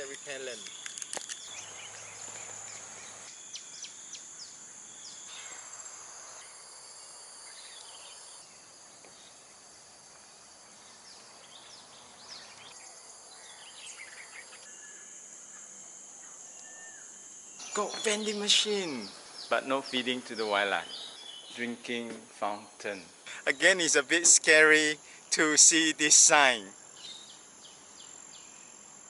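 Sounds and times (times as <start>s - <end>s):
birds chirping: 0.0s - 5.8s, 10.6s - 28.8s
insects humming: 0.0s - 29.0s.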